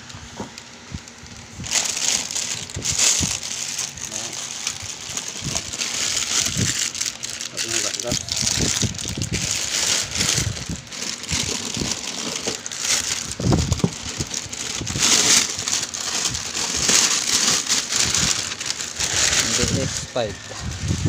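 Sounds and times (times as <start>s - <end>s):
plastic sheet rustling: 0.0s - 21.0s.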